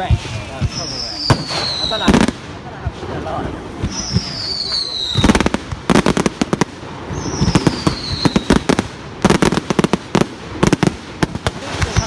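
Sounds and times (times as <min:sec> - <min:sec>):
firecrackers cracking: 0:00.0 - 0:12.0.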